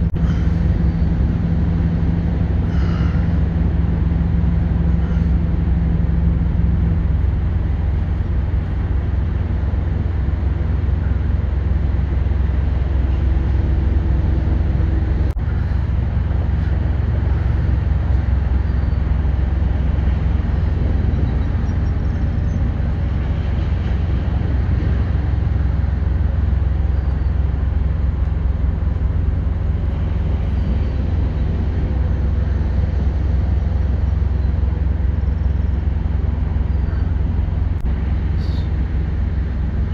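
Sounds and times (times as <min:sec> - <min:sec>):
traffic rumble: 0:00.0 - 0:39.9.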